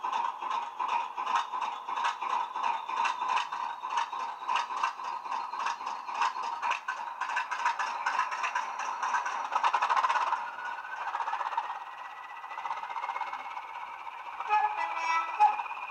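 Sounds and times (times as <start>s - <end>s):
diesel engine idling through small speaker: 0.0s - 15.9s.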